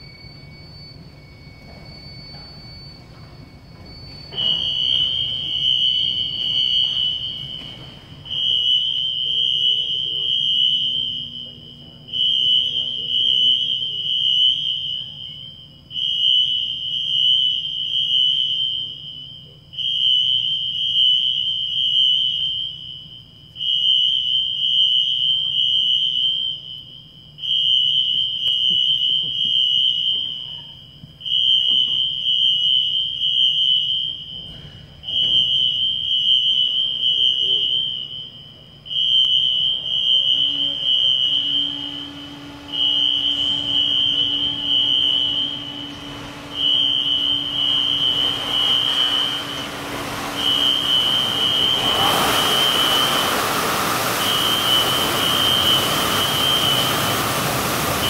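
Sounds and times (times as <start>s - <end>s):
fire alarm high tone blasts: 0.0s - 58.0s.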